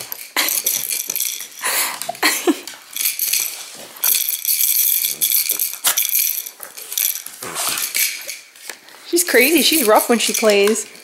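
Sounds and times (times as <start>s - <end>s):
collar tags jingling: 0.0s - 11.0s.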